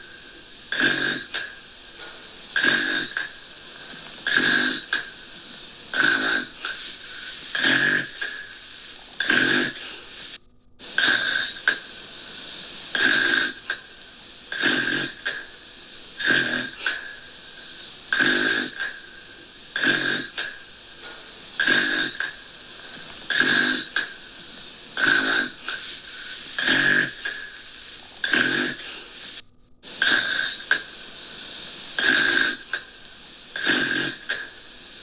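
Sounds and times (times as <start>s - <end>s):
person snoring: 0.0s - 35.0s
steady background hiss: 0.0s - 35.0s.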